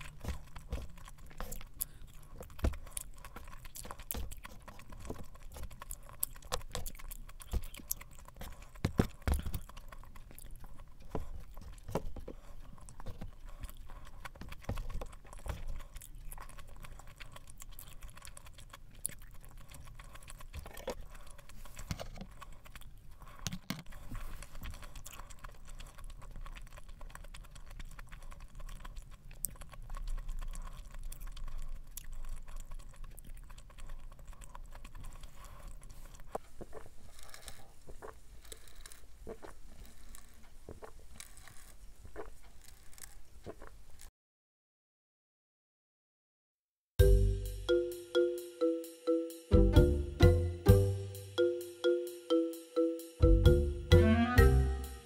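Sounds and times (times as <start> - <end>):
close chewing: 0.0 - 44.1.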